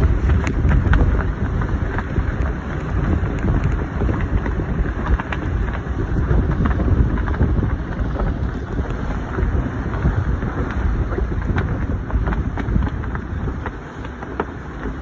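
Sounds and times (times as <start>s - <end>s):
water splashing along hull: 0.0s - 15.0s
wind buffeting microphone: 0.0s - 15.0s.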